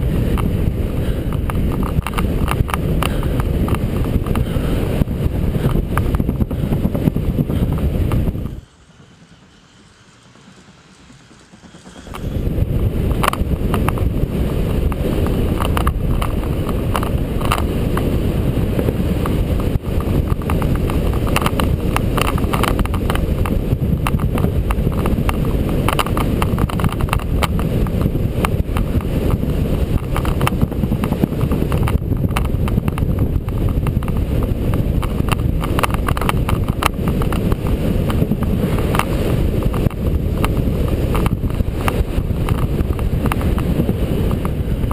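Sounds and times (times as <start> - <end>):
wind buffeting microphone: 0.0 - 8.7, 11.0 - 44.9
bicycle tyres rumbling on concrete: 0.0 - 8.8, 11.0 - 44.9
sharp clicks: 1.1 - 6.3, 13.1 - 18.1, 19.1 - 44.9.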